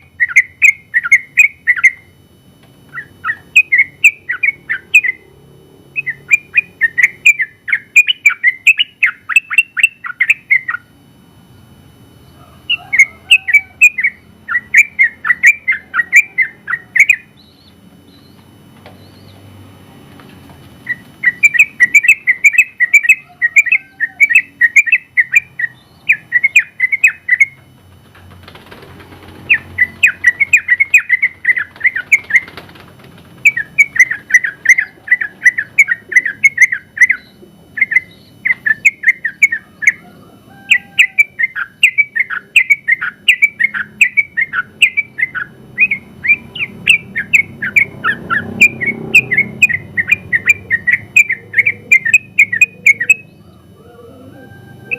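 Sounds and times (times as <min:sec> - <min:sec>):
bird chirping song: 0:00.0 - 0:02.1, 0:02.9 - 0:19.8, 0:20.8 - 0:54.9.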